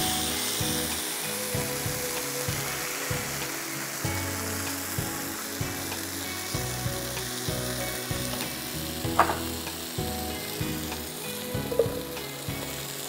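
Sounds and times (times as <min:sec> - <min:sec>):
chicken sizzling in hot oil: 0:00.0 - 0:13.0
soft background music: 0:00.0 - 0:13.0.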